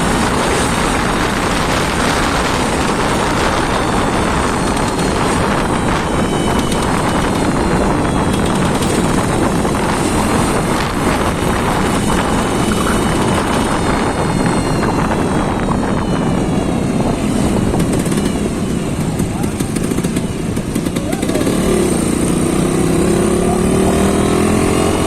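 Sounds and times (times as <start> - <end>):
engine running loud: 0.0 - 25.0.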